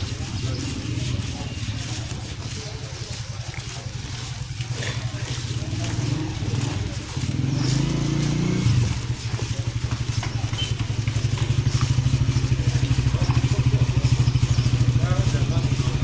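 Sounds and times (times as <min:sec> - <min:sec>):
small motorcycle engines: 0:00.0 - 0:16.0.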